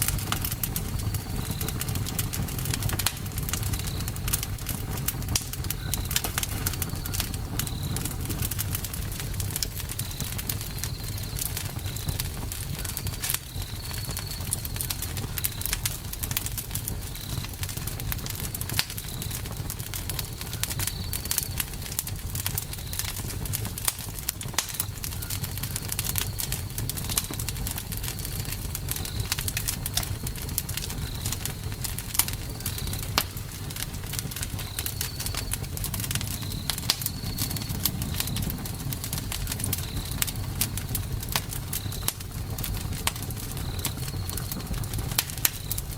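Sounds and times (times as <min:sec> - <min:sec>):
campfire crackling and popping: 0:00.0 - 0:45.9.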